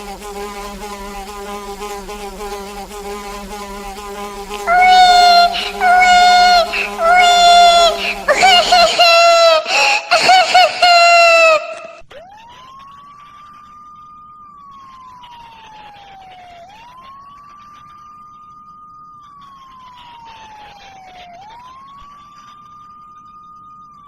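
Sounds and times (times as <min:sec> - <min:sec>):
siren wailing: 0:04.2 - 0:24.0.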